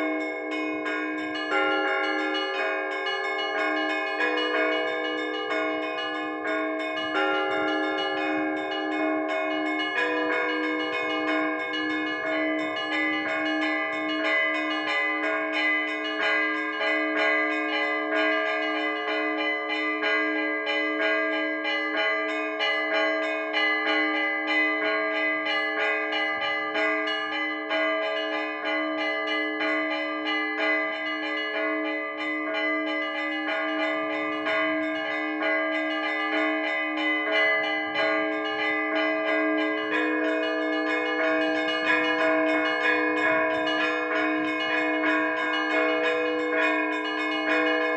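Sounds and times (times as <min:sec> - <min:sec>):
low bell struck steadily: 0:00.0 - 0:47.9.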